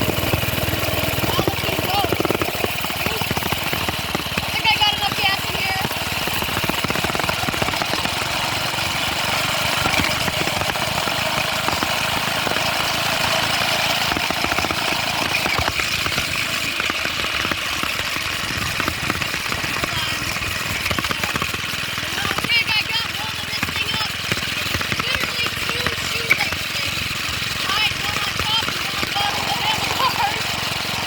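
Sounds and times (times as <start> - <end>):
small engine running: 0.0 - 31.0.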